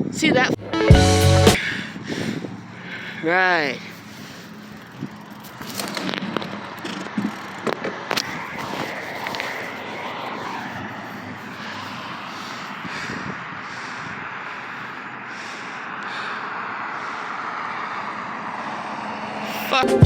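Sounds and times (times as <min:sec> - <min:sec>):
motor vehicle passing: 0:00.4 - 0:20.0.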